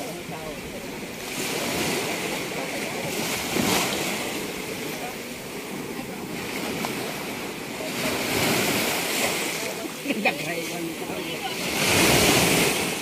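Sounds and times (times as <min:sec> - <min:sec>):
sea water lapping: 0:00.0 - 0:13.0.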